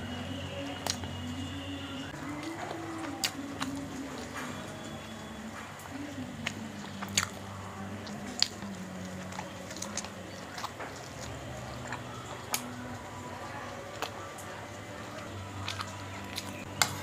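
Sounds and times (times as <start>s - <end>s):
person chewing with wet smacks: 0.3s - 17.0s.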